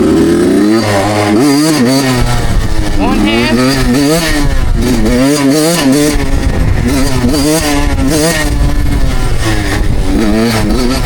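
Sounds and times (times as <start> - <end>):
two-stroke dirt bike engine revving: 0.0 - 11.0.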